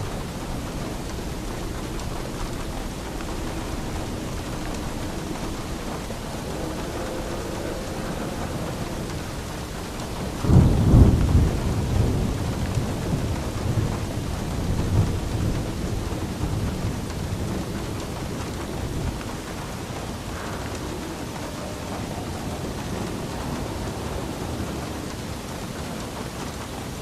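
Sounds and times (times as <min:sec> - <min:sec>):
steady rain falling: 0:00.0 - 0:27.0
thunder rumbling: 0:00.0 - 0:27.0.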